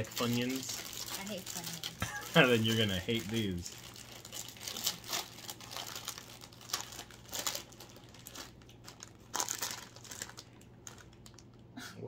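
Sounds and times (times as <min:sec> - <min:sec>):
plastic snack bag crinkling: 0:00.0 - 0:11.6.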